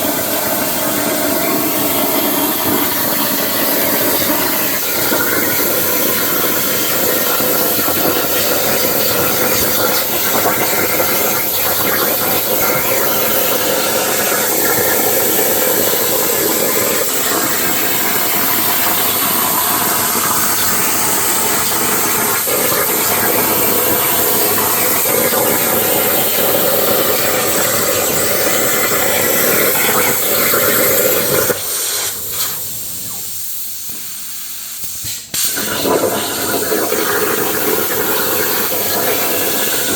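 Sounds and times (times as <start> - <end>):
plasma torch hissing: 0.2 - 39.9.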